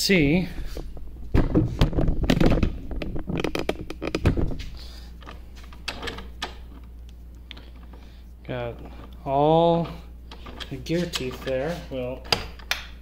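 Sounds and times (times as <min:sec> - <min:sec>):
handling clicks and scrapes: 0:01.7 - 0:13.0.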